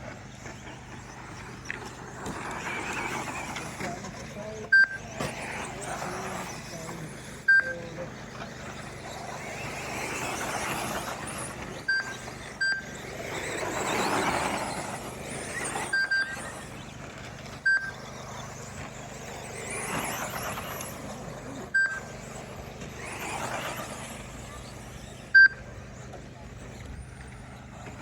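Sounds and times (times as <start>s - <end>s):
radio-controlled trucks racing past: 0.0s - 28.0s.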